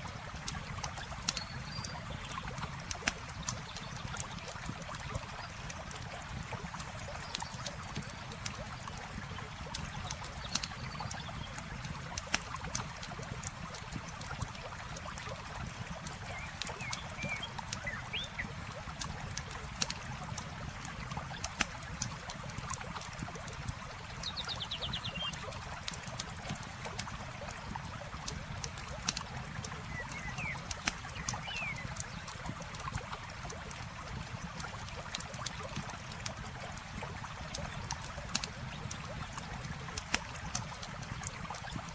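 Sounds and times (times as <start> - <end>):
stream flowing: 0.0 - 41.9
campfire crackling and popping: 0.3 - 24.2, 25.3 - 41.9.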